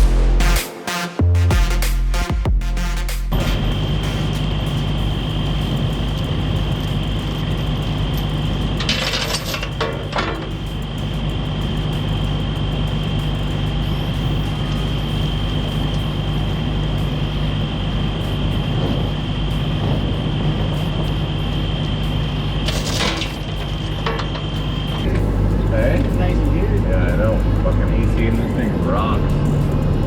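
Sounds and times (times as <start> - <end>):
diesel truck engine droning: 2.8 - 30.0.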